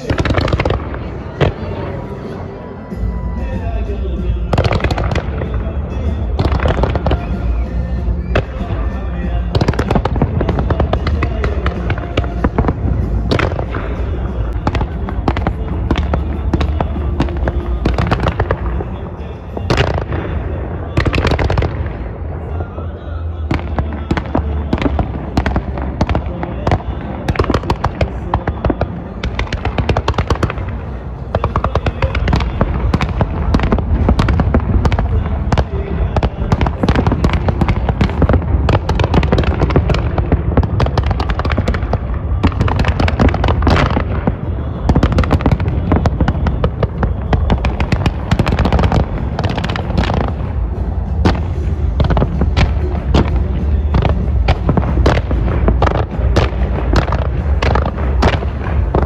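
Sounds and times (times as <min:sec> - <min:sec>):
deep rumble: 0:00.0 - 0:59.0
fireworks bangs and crackles: 0:00.0 - 0:59.0.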